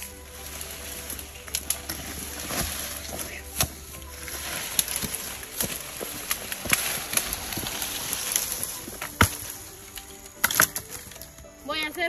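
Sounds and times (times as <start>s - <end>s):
wood snapping and knocking: 0.0s - 11.6s
dry brush rustling: 0.0s - 12.0s.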